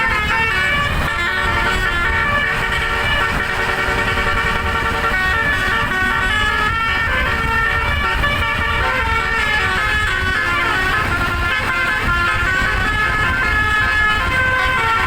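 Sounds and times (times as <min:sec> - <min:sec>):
musical bus air horn: 0:00.0 - 0:15.0.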